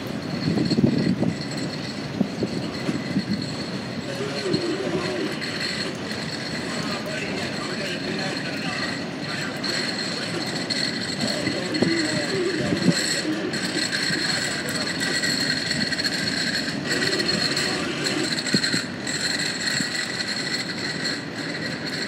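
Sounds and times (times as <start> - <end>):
faint high ringing: 0.0 - 22.0
freight cars rolling on rails: 0.0 - 22.0.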